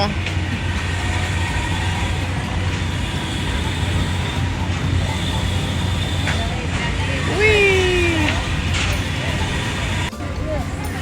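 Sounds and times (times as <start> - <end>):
fairground noise: 0.0 - 11.0
low machinery hum: 0.0 - 11.0.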